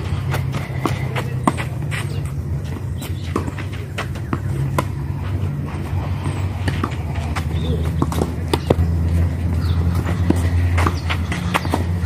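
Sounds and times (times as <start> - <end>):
ball bouncing: 0.0 - 12.0
footsteps on clay court: 0.0 - 12.0
racket striking tennis ball: 0.0 - 12.0
steady low hum: 0.0 - 12.0.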